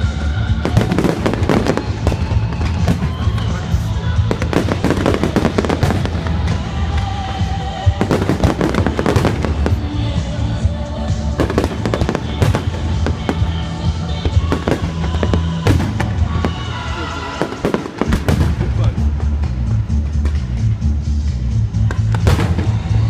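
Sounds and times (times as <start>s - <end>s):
fireworks bangs and crackles: 0.0s - 23.0s
loud music: 0.0s - 23.0s.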